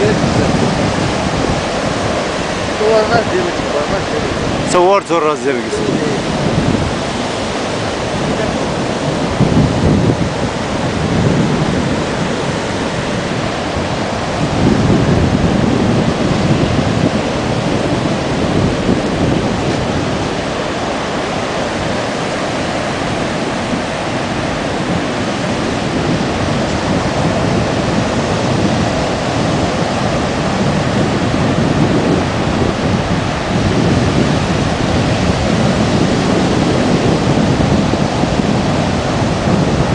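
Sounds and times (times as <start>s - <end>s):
sea surf washing in: 0.0s - 39.9s
wind buffeting microphone: 0.0s - 39.9s.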